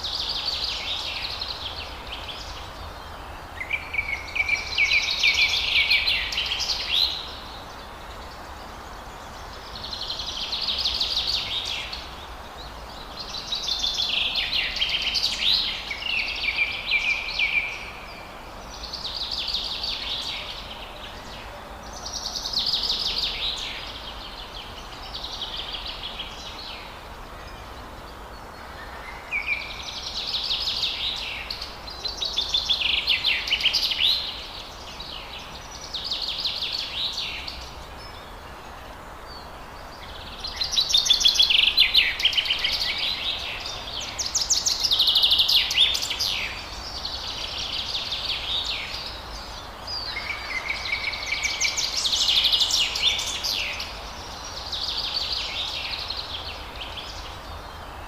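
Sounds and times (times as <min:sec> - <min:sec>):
faint background hiss: 0:00.0 - 0:58.0
songbirds trilling: 0:00.0 - 0:58.0.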